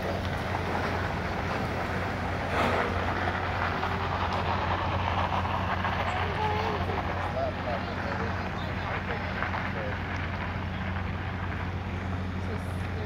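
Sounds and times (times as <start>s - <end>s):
steady low hum: 0.0s - 13.0s
vehicle engine pulling away: 0.0s - 13.0s.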